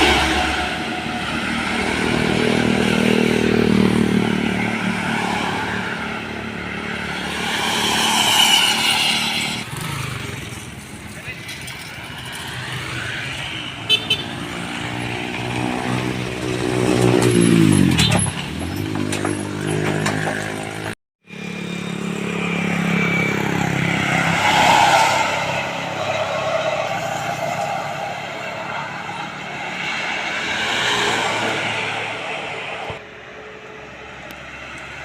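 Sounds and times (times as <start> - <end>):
engine and tyre noise: 0.0 - 35.0
vehicles passing: 0.0 - 35.0.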